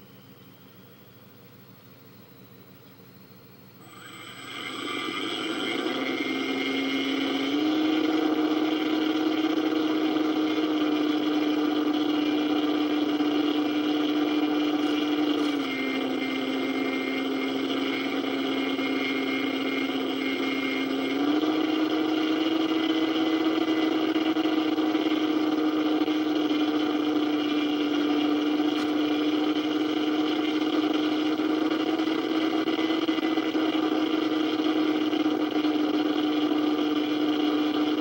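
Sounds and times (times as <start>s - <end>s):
model plane motor running: 3.8s - 38.0s.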